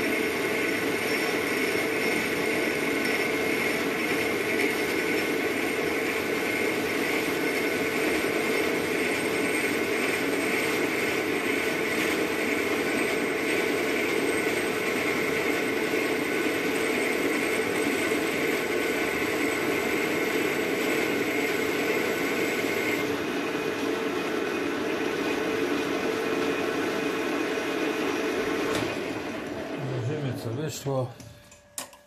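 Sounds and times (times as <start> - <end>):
metal lathe cutting with whine: 0.0 - 31.1.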